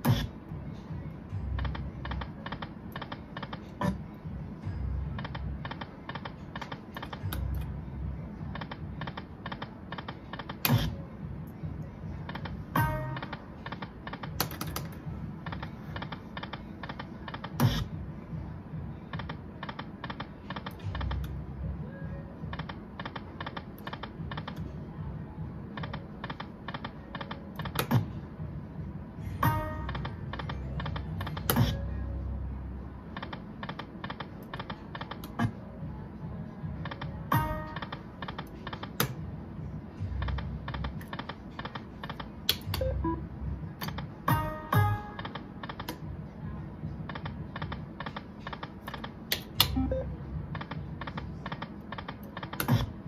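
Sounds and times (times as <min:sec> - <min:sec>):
low machine music: 0:00.0 - 0:53.0
steady hum: 0:00.0 - 0:53.0.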